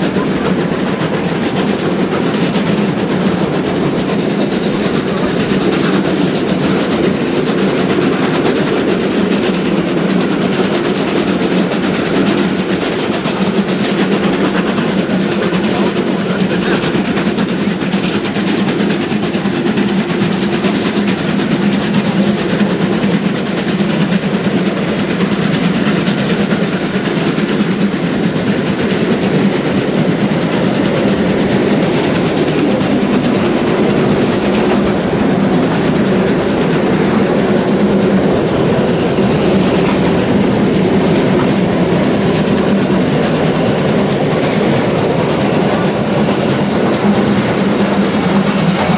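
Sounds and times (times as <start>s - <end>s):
steam locomotive exhaust beats: 0.0s - 48.9s
train wheels on rails: 0.0s - 48.9s.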